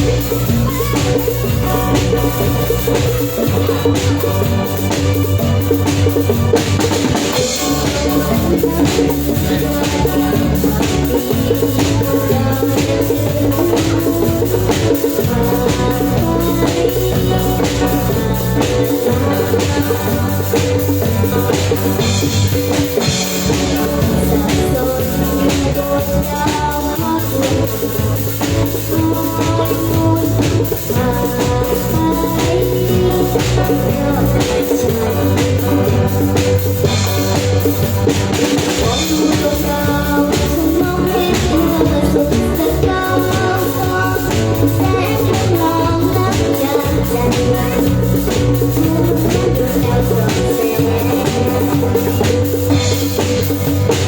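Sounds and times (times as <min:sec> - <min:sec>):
drums beating: 0:00.0 - 0:54.0
live band playing: 0:00.0 - 0:54.0.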